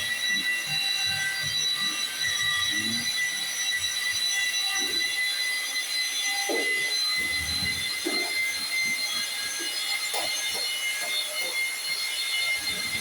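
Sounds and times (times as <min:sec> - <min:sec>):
high-pitched whine: 0:00.0 - 0:13.0.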